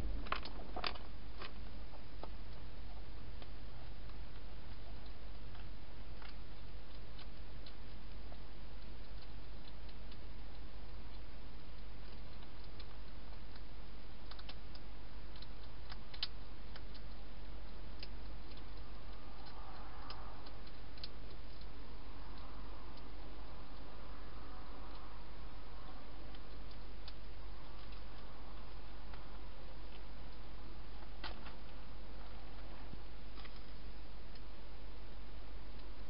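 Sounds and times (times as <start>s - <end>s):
hedgehog crunching dry food: 0.0s - 34.5s
steady low hum and hiss: 0.0s - 36.0s.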